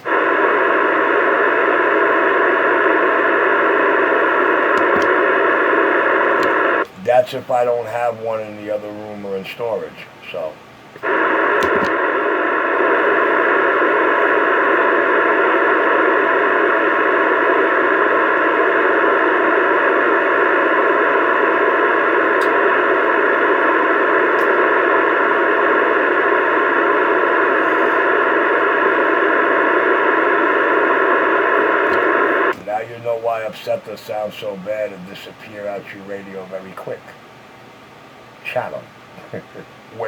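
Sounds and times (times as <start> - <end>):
radio static hissing: 0.0 - 37.3, 38.3 - 40.0.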